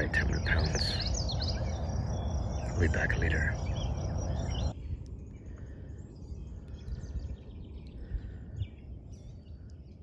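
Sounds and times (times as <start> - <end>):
bird chirps: 0.0 - 10.0
steady low rumble: 0.0 - 10.0.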